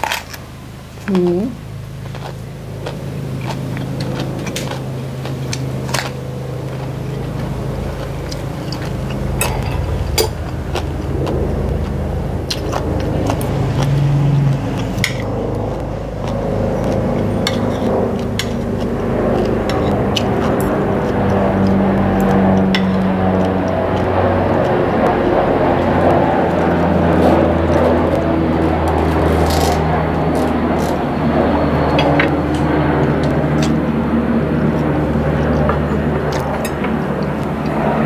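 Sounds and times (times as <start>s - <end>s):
vehicle engine hum: 0.0s - 38.0s
chewing: 2.0s - 38.0s.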